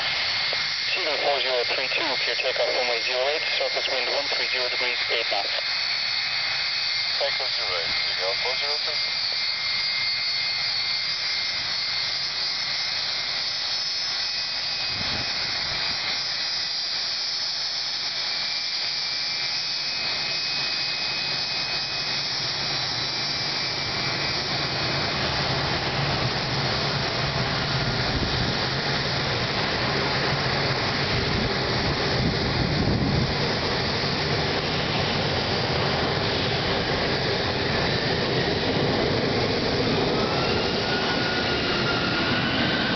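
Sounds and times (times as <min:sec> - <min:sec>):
jet engines spooling up: 0:00.0 - 0:42.9.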